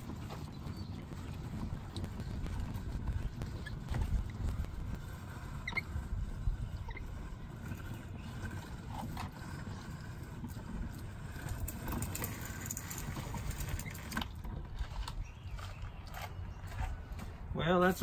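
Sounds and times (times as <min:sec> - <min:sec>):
hose reel motor rumbling: 0:00.0 - 0:18.0.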